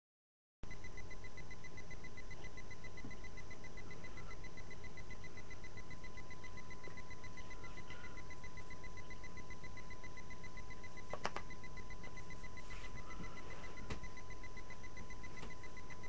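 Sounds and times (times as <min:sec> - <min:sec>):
faint steady whine: 0:00.6 - 0:16.0.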